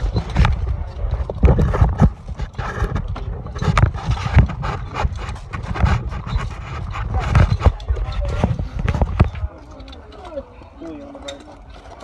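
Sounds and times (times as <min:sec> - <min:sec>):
knocks and clatter: 0:00.0 - 0:10.4.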